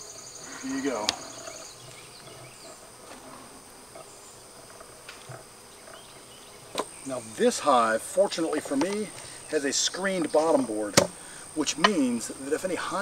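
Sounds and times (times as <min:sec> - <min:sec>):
bees buzzing faintly: 0:00.0 - 0:13.0.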